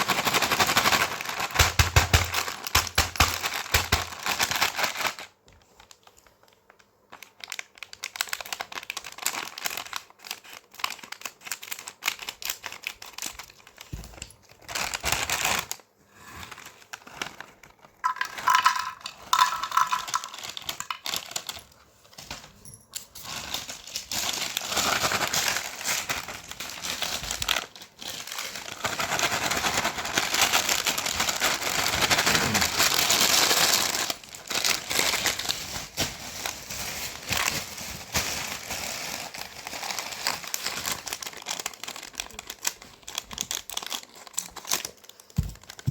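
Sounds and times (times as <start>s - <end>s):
plastic snack packet crinkling: 0.0s - 22.3s, 23.1s - 45.9s.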